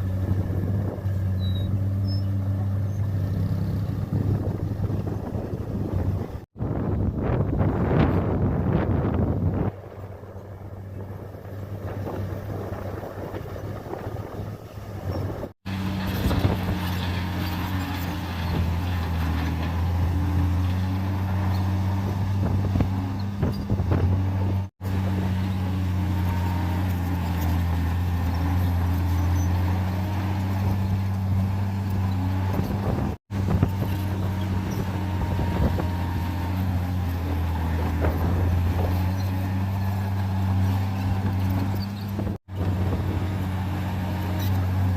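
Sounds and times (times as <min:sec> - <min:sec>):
bulldozer diesel engines droning: 0:00.0 - 0:44.9.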